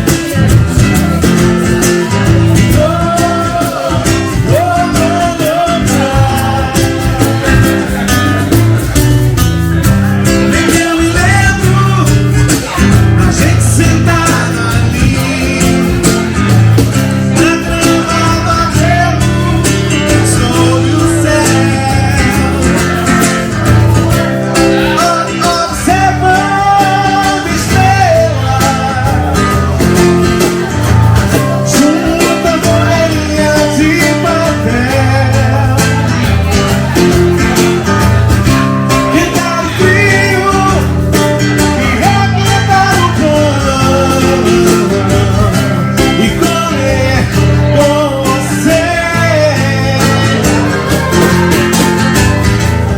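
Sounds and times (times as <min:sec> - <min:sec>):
bass line: 0:00.0 - 0:52.9
guitar playing: 0:00.0 - 0:52.9
person singing: 0:00.0 - 0:52.9.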